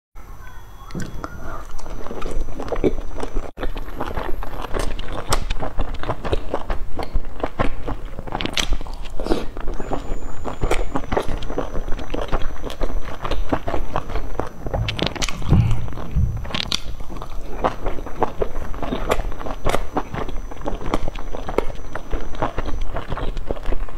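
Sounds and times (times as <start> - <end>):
chewing with mouth clicks: 0.9 - 23.9.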